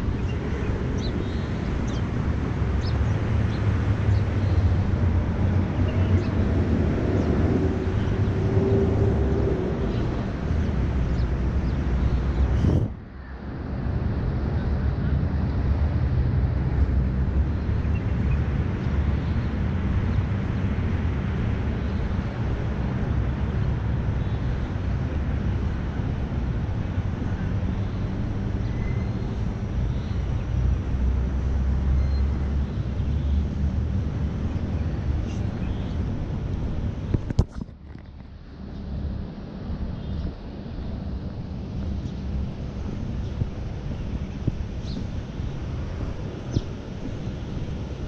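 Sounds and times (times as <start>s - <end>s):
wind buffeting microphone: 0.0s - 28.6s, 33.5s - 48.0s.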